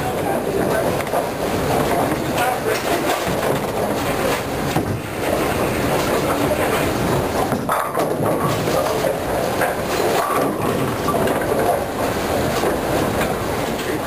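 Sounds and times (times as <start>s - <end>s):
bowling balls rolling: 0.0s - 14.0s.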